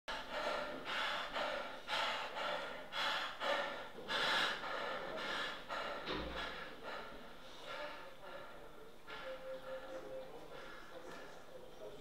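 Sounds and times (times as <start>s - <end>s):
man breathing hard and fast: 0.1s - 11.6s.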